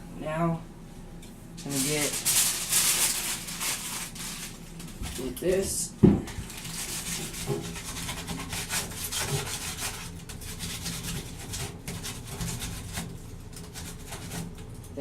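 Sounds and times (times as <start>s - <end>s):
foil scrubbing metal pipe: 1.6s - 15.0s.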